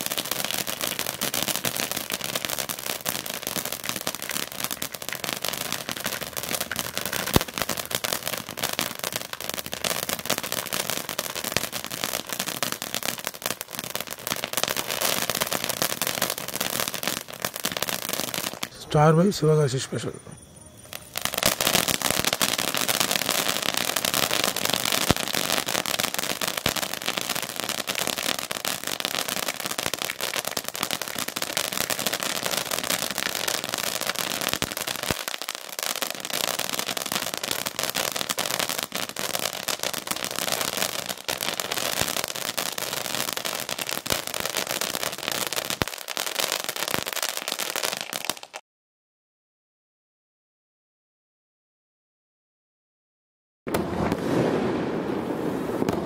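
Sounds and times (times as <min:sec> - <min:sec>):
fountain firework crackling: 0:00.0 - 0:20.2, 0:20.8 - 0:48.6, 0:53.7 - 0:56.0.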